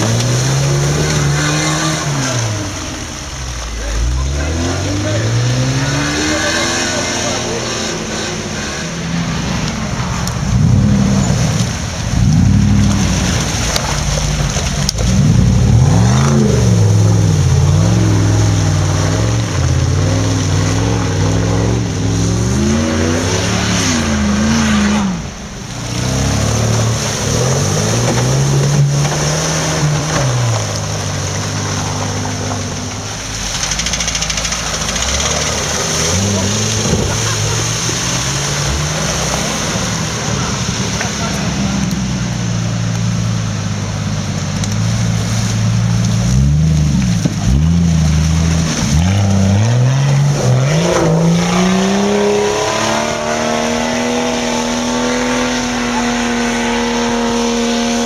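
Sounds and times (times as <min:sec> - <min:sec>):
off-road engines revving hard: 0:00.0 - 0:58.0.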